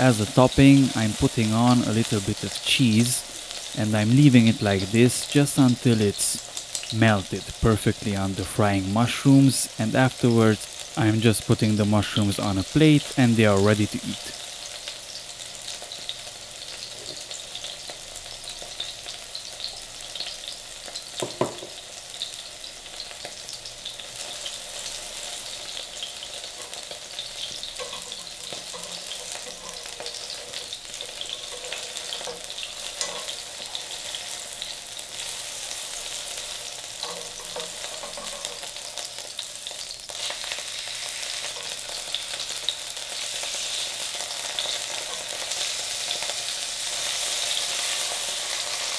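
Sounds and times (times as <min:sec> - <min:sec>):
mushrooms sizzling in oil: 0:00.0 - 0:48.9.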